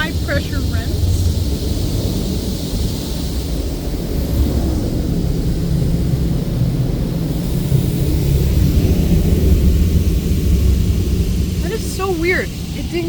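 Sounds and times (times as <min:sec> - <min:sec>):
deep machine rumble: 0:00.0 - 0:13.0
high-pressure water spray: 0:00.0 - 0:13.0.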